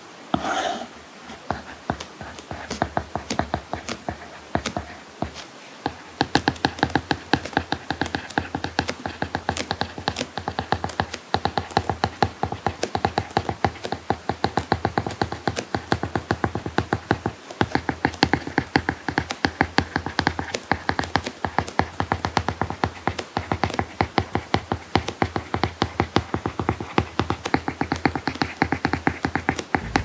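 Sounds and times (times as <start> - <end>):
stylus tapping and scratching on screen: 0.3 - 30.0.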